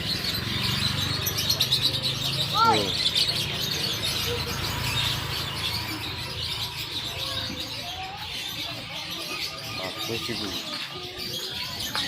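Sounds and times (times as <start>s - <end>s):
songbirds chirping chorus: 0.0s - 12.0s.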